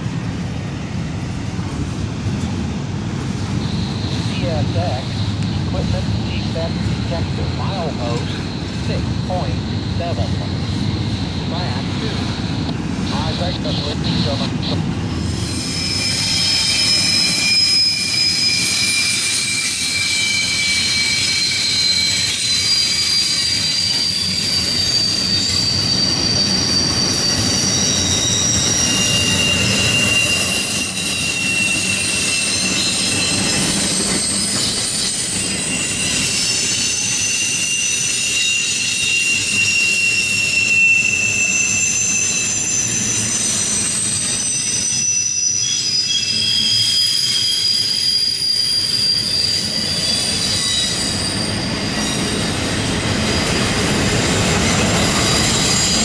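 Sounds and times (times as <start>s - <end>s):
train wheels rumbling on rail: 0.0s - 56.0s
high wheel squeals: 3.4s - 56.0s.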